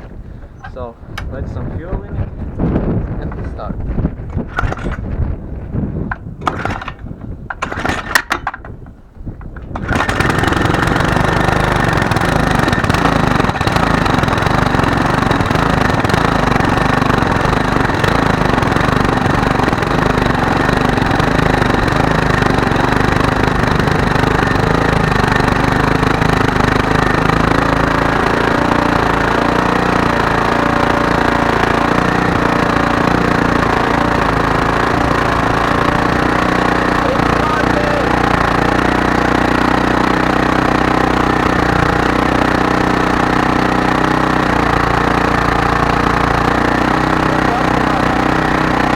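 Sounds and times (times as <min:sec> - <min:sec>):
lawnmower engine starting and running: 0:00.0 - 0:01.8, 0:02.4 - 0:48.9.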